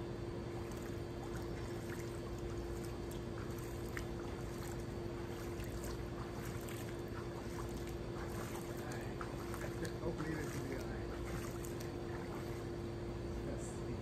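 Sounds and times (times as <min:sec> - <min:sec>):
steady hum: 0:00.0 - 0:14.0
water sloshing around wading person: 0:00.3 - 0:13.5
small water splashes: 0:00.4 - 0:13.0.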